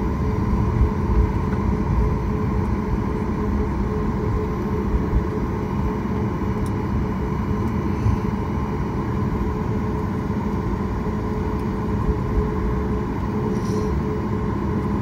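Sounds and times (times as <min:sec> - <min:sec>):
jet engines humming: 0:00.0 - 0:15.0.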